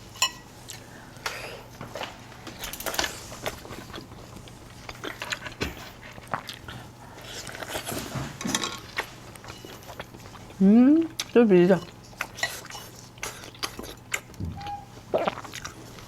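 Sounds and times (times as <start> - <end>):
person chewing and slurping: 3.0 - 16.0.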